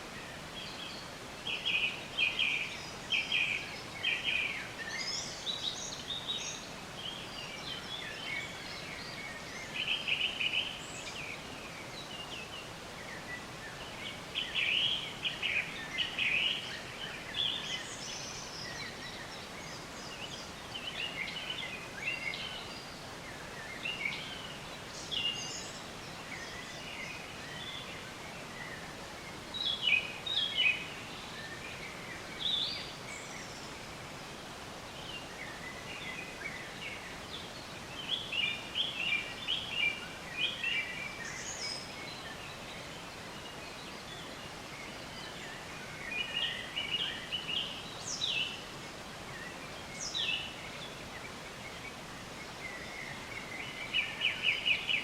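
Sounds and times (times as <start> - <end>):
songbirds chirping and trilling: 0.0 - 55.0
steady background hiss: 0.0 - 55.0.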